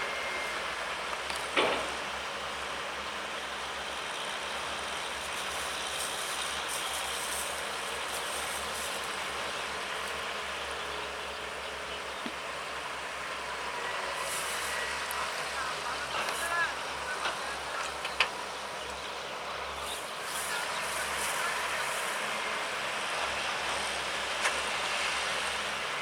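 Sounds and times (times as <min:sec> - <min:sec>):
excavator running: 0:00.0 - 0:26.0.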